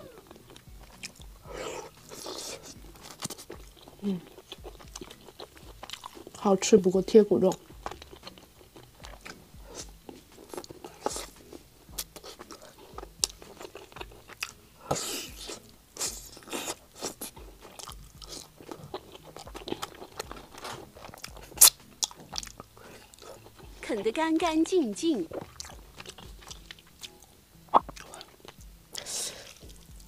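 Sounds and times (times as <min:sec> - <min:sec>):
person chewing meat off bone: 0:00.0 - 0:06.4, 0:07.5 - 0:23.8, 0:25.3 - 0:30.0
mouth and teeth clicks: 0:00.0 - 0:06.5, 0:07.4 - 0:24.1, 0:25.2 - 0:30.0.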